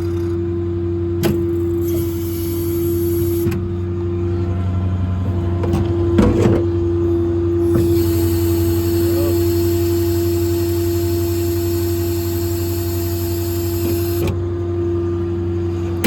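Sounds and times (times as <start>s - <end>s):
truck machine hum: 0.0s - 16.0s.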